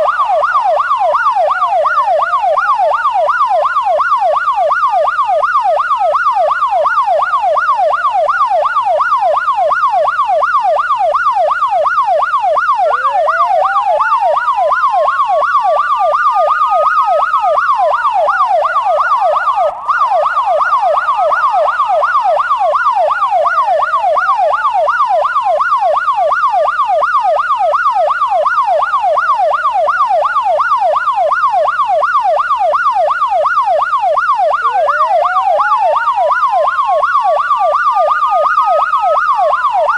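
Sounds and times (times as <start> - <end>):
electronic siren fast yelp: 0.0 - 39.9
slow siren wail: 0.0 - 39.9.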